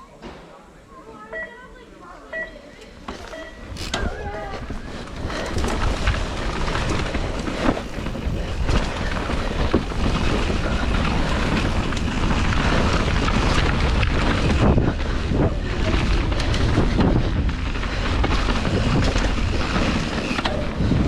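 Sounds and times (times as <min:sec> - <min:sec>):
mountain bike rolling on dirt: 0:02.9 - 0:21.0
bike rattling over rough ground: 0:03.0 - 0:21.0
wind on microphone: 0:03.6 - 0:21.0.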